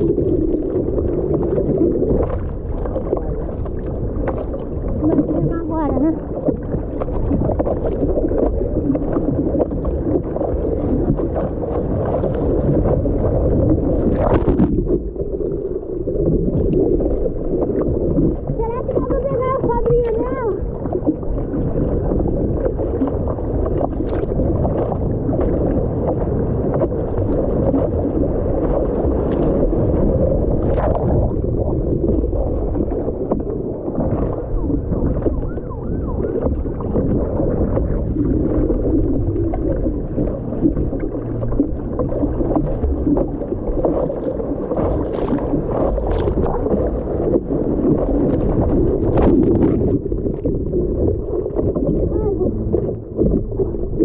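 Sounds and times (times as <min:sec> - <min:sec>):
sharp paddling splashes: 0:00.0 - 0:54.0
water sloshing around surfboard: 0:00.0 - 0:54.0.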